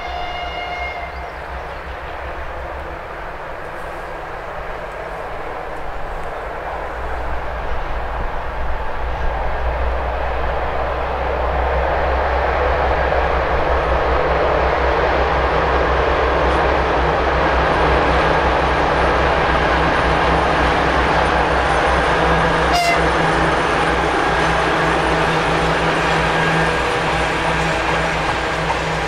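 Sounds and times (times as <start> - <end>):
diesel locomotive engines working hard: 0.0 - 29.0.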